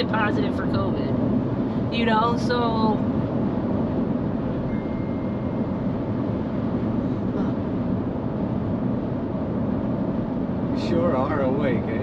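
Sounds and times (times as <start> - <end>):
wind noise in car cabin: 0.0 - 12.0.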